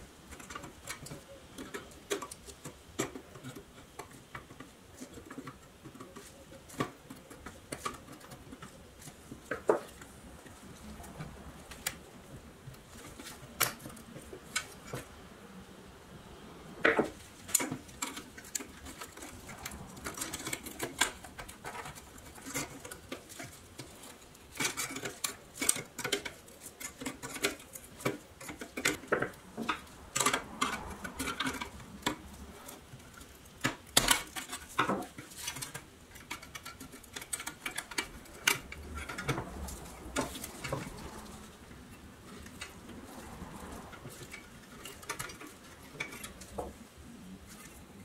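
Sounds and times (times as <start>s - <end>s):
sheet metal toy clicking and scraping: 0.0s - 15.7s, 16.4s - 48.0s.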